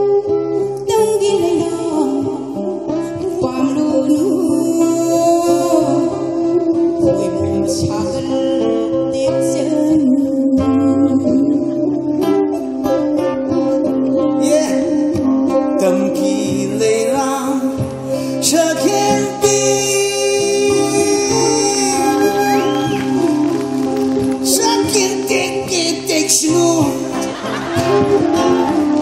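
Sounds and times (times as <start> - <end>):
acoustic guitar: 0.0 - 29.0
woman singing: 0.8 - 12.7, 14.3 - 29.0.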